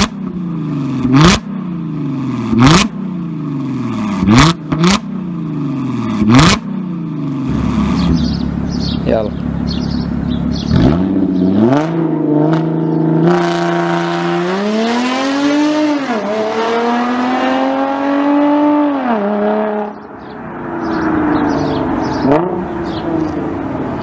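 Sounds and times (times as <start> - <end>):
car engine revving and accelerating: 0.0 - 9.0, 9.6 - 24.0.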